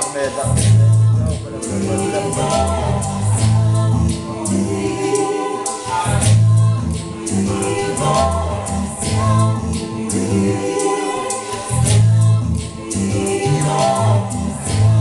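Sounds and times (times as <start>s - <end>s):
live band music: 0.0s - 15.0s
person singing: 0.0s - 15.0s
low bass line: 0.4s - 5.0s, 6.1s - 10.8s, 11.7s - 15.0s.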